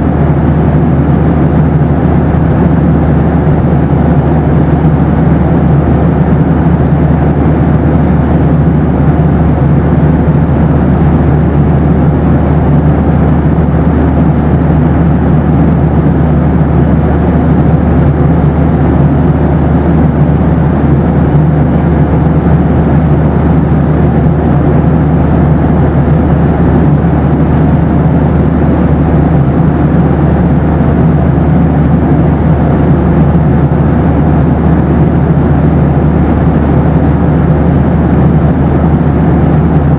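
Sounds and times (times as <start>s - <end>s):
jet engine and airflow drone: 0.0s - 39.9s.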